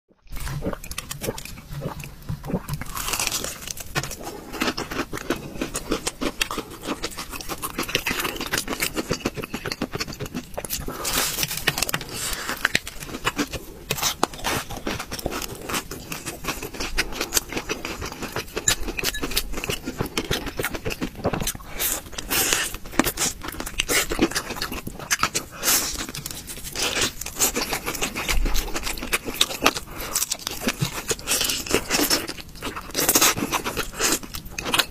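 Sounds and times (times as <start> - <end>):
wet mouth noises: 0.2 - 31.9
crunching fried food: 0.2 - 34.9.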